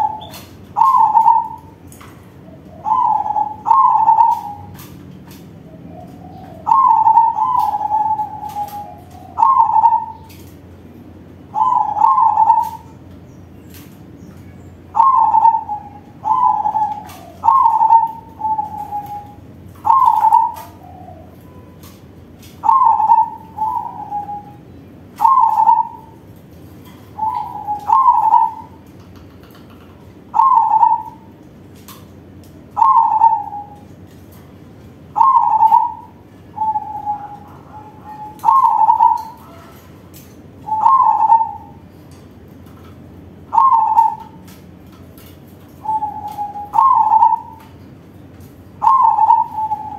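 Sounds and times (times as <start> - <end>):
dove cooing: 0.0 - 10.8, 11.4 - 13.2, 14.8 - 31.4, 32.6 - 42.0, 42.9 - 49.9.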